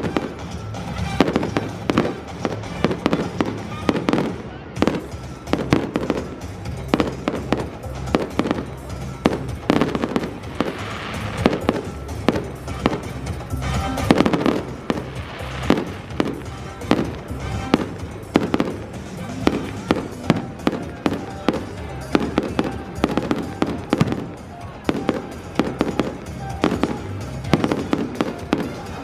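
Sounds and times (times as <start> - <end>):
fireworks bangs: 0.0 - 29.0
music playing: 0.0 - 29.0.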